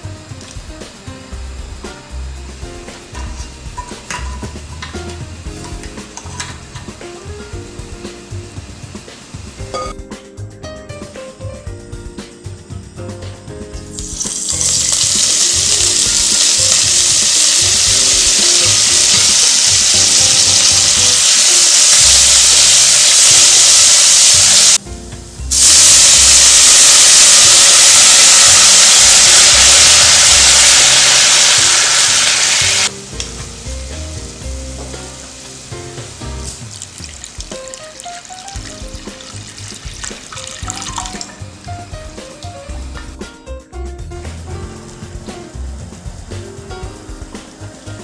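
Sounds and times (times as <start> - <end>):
food sizzling in hot oil: 0.0 - 10.0, 13.7 - 43.2, 44.7 - 48.0.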